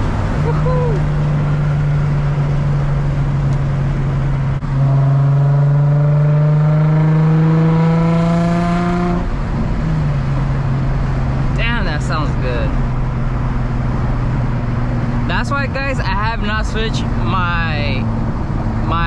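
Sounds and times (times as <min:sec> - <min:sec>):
car engine revving while driving: 0:00.0 - 0:19.0.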